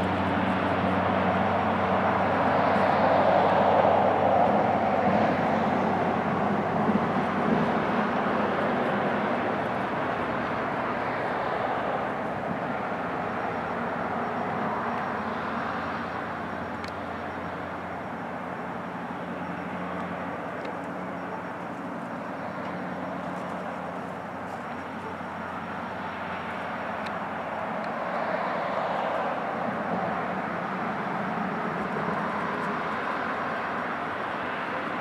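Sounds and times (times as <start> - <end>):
distant engine drone: 0.0 - 35.0.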